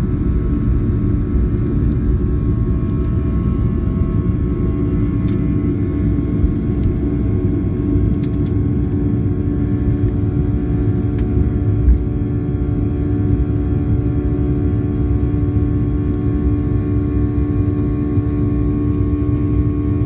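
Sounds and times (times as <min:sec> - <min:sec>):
jet engine rumble in cabin: 0:00.0 - 0:20.0.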